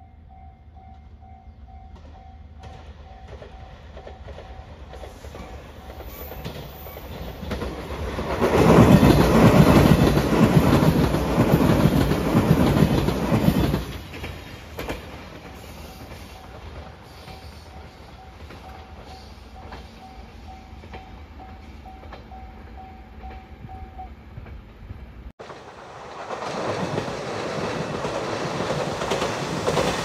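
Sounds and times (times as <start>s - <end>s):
train passing with rattle: 0.0s - 30.0s.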